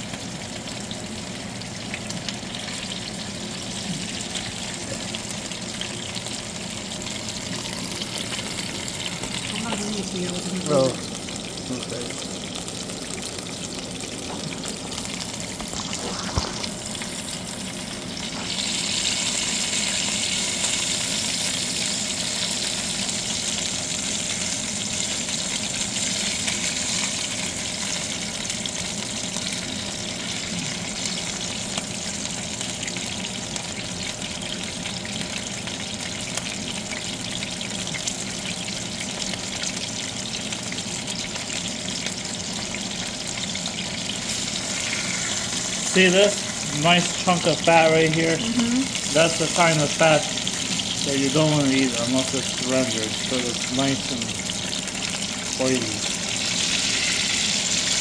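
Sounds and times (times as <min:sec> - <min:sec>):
steak sizzling in frying pan: 0:00.0 - 0:58.0.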